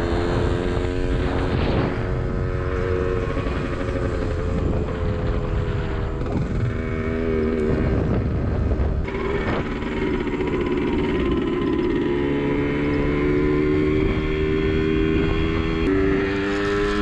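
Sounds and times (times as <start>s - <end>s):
motorcycle engine running: 0.0s - 17.0s
road rumble: 0.0s - 17.0s
wind: 0.0s - 17.0s.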